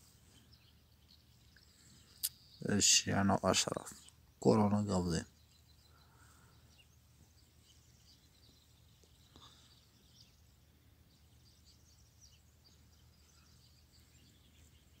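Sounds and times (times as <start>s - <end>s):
faint high bird chirps: 0.0s - 15.0s.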